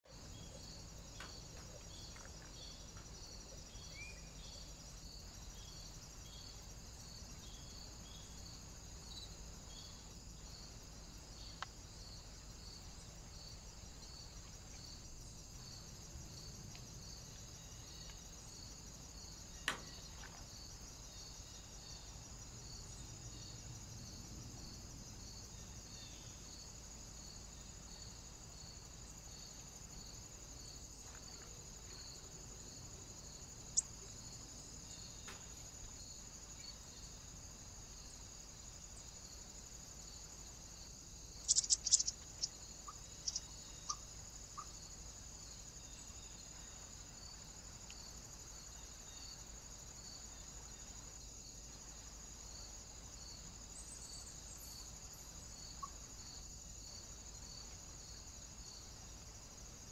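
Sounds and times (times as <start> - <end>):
insect chirring: 0.0 - 59.9
outdoor hiss: 0.0 - 59.9.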